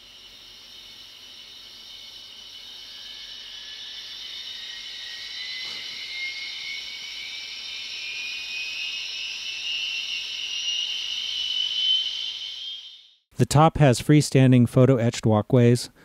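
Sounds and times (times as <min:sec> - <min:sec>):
model turbine whine: 0:00.0 - 0:13.2.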